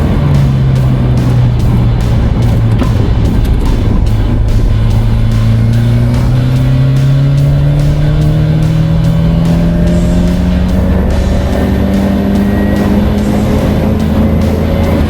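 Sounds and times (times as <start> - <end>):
background music: 0.0 - 15.0
car engine pulling under load: 0.0 - 15.0.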